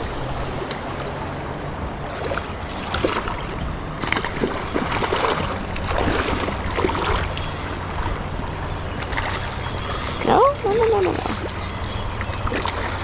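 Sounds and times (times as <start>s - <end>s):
creek water splashing: 0.0s - 13.0s.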